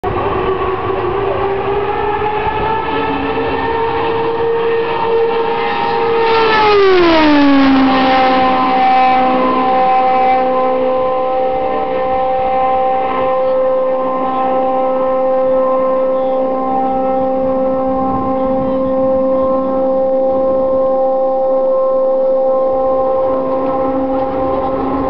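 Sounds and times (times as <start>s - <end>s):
race car passing at speed: 0.1s - 25.0s.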